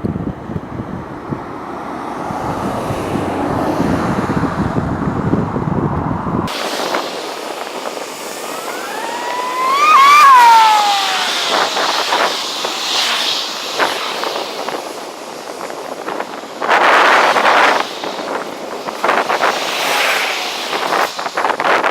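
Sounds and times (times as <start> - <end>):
jet engine whine: 0.0 - 21.9
loud rush of noise: 0.2 - 21.9.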